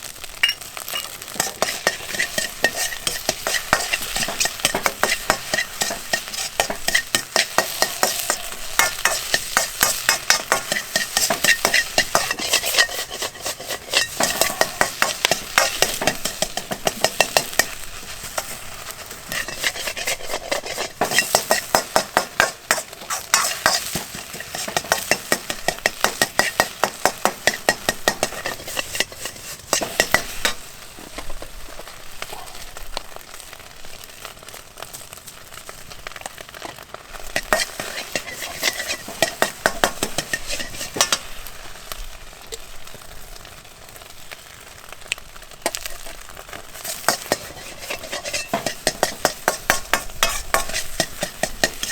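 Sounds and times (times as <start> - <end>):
rice sizzling in a wok: 0.0 - 51.9
utensil scraping and knocking pan: 0.4 - 31.5, 36.2 - 41.4, 45.7 - 46.2, 46.8 - 51.9.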